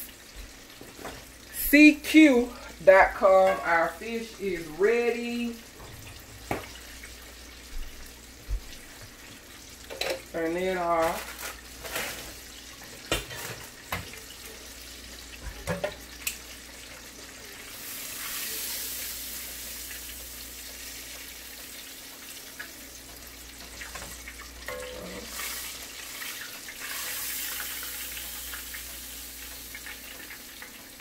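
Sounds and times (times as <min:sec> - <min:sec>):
frying oil hissing: 0:00.0 - 0:31.0.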